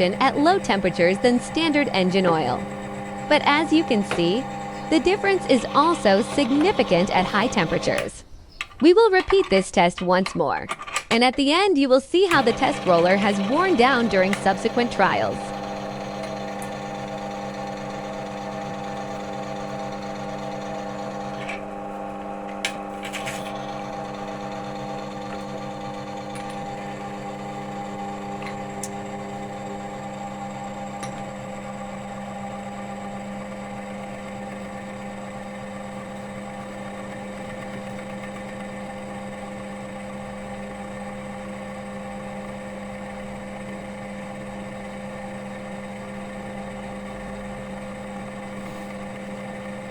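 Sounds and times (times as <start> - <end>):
machine motor hum: 0.0 - 8.2, 12.3 - 49.9.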